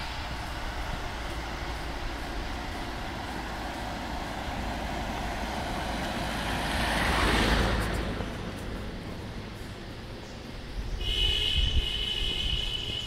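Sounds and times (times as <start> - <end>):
car driving past: 0.0 - 10.8.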